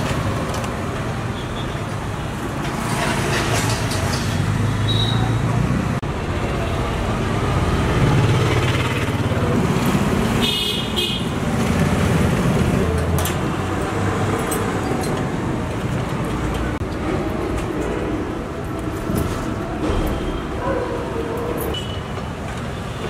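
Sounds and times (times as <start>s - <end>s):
street traffic noise: 0.0s - 23.0s.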